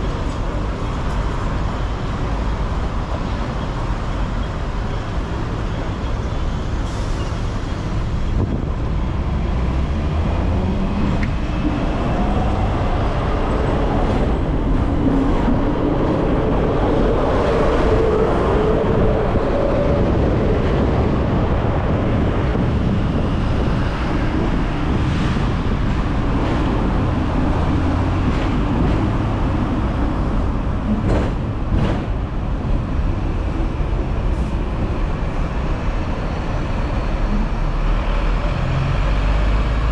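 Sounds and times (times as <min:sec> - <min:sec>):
traffic noise: 0:00.0 - 0:39.9
tram wheels and motor rumbling: 0:00.0 - 0:39.9.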